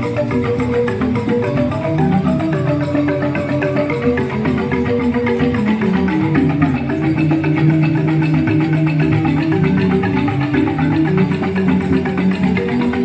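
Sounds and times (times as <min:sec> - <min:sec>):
bamboo xylophones playing: 0:00.0 - 0:13.0.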